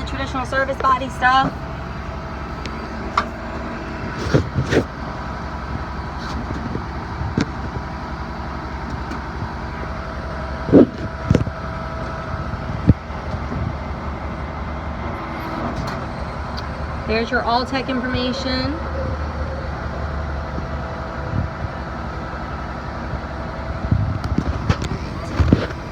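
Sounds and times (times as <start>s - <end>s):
diesel truck idling: 0.0s - 25.9s.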